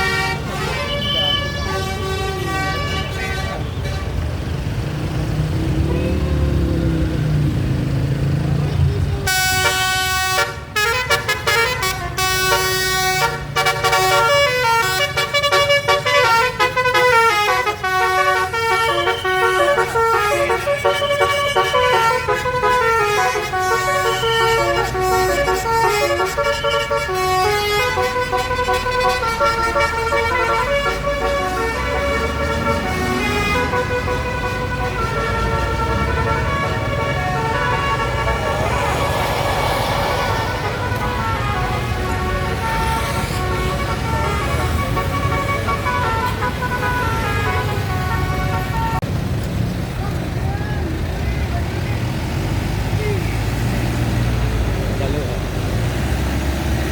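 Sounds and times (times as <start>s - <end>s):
bus multi-tone horn melody: 0.0s - 5.0s, 5.6s - 6.7s, 9.2s - 49.2s
bus engine running: 0.0s - 56.9s.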